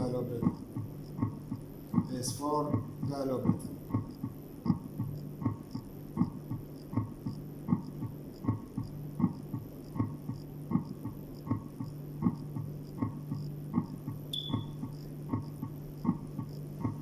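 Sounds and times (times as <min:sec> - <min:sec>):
heartbeat gallop: 0:00.0 - 0:17.0
steady low hum: 0:00.0 - 0:17.0.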